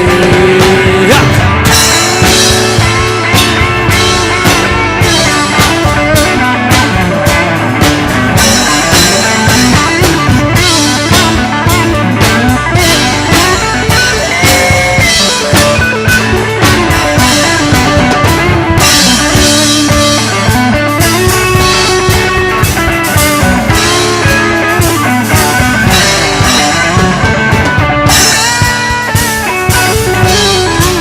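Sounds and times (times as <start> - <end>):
country band playing: 0.0 - 31.0
lead guitar: 0.0 - 31.0.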